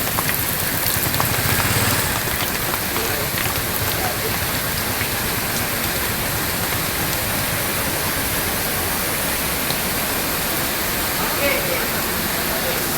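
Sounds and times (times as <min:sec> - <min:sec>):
falling water hissing: 0:00.0 - 0:12.9.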